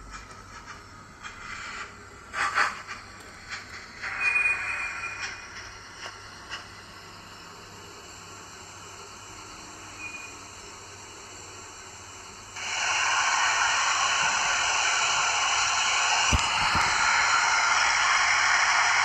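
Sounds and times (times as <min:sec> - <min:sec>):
model locomotive steam hiss: 0:00.1 - 0:19.0.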